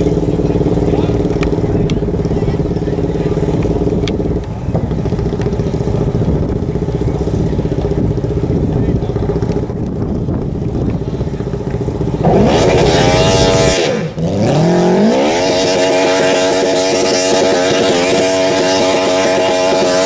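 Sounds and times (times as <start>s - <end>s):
tractor engine revving: 0.0s - 20.0s.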